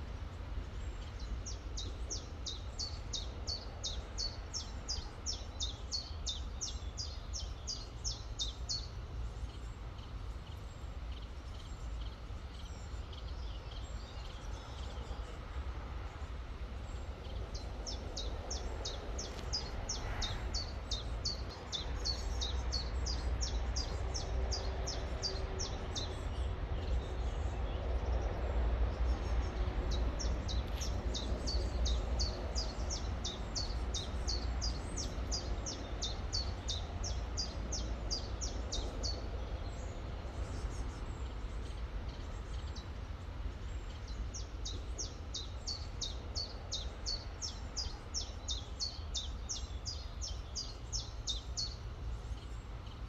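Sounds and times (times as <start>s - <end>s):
songbird high chirps: 0.7s - 53.0s.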